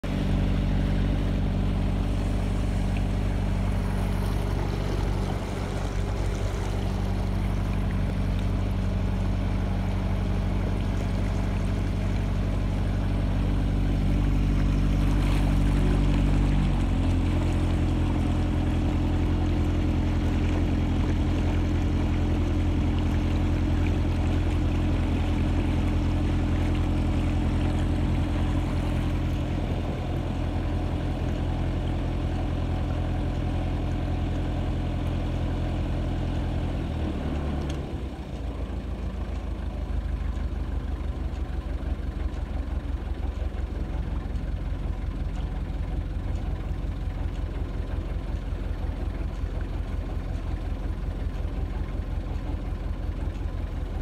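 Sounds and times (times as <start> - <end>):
boat diesel engine running: 0.0 - 54.0.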